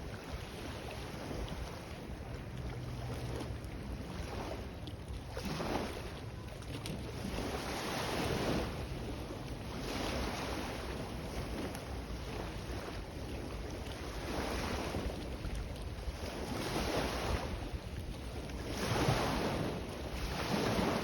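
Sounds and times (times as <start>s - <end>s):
sea waves surging: 0.0s - 21.0s
wind rumbling on microphone: 0.0s - 21.0s.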